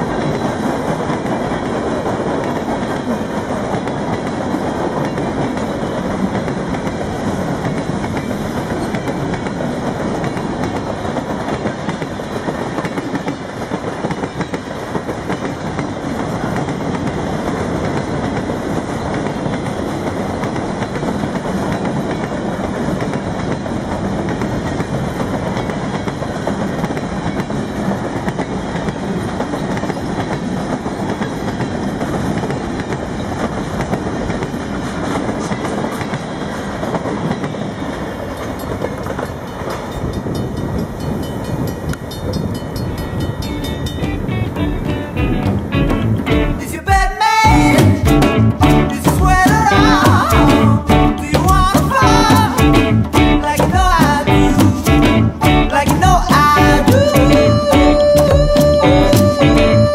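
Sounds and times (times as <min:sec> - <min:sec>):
steel wheels running over rails: 0:00.0 - 0:59.9.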